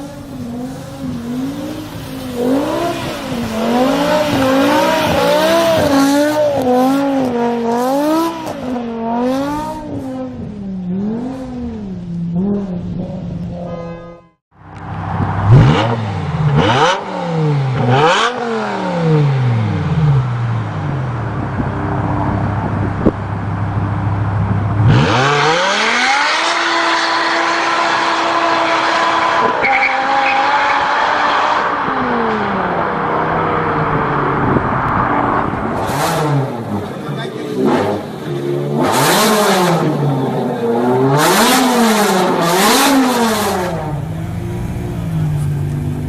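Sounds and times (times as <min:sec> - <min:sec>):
car engine revving and idling: 0:00.0 - 0:14.0, 0:14.6 - 0:46.0.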